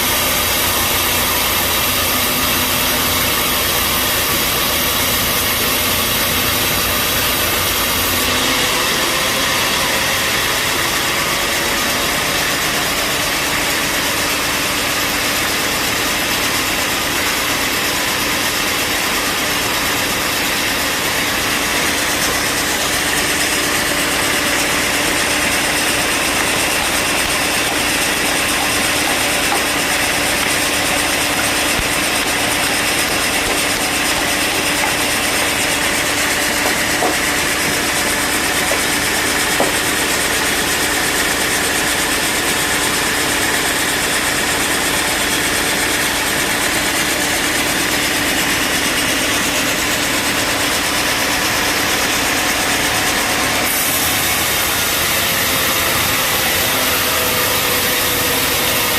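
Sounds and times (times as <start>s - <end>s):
bandsaw sawmill droning: 0.0s - 58.9s.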